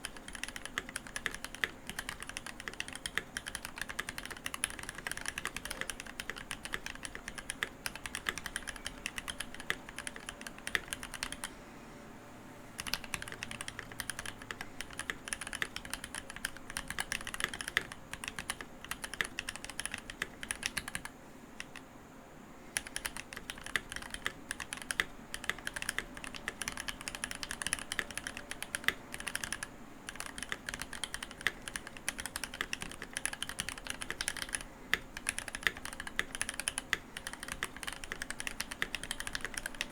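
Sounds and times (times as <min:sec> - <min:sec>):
mechanical keyboard typing: 0:00.0 - 0:11.5, 0:12.8 - 0:21.8, 0:22.8 - 0:39.9.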